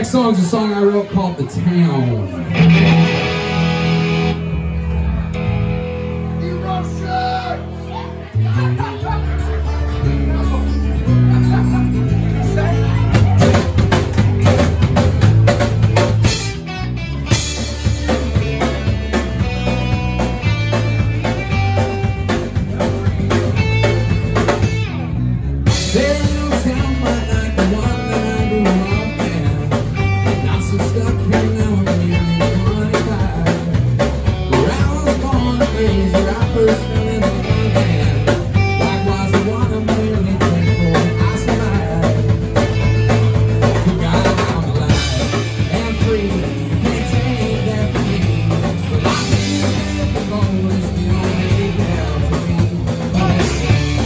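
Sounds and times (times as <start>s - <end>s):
acoustic guitar: 0.0s - 54.0s
electric bass: 0.0s - 54.0s
electric guitar: 0.0s - 54.0s
drum kit: 2.4s - 7.2s, 11.0s - 54.0s.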